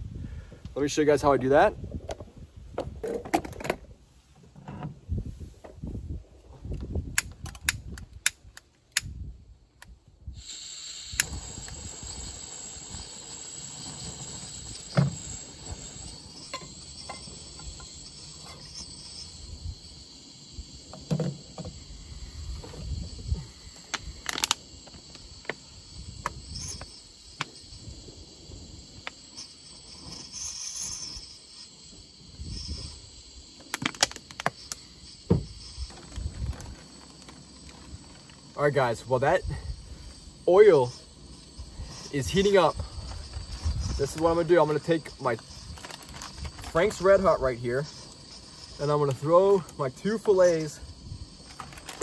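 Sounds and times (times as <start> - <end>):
gas burner hissing: 10.2 - 52.0.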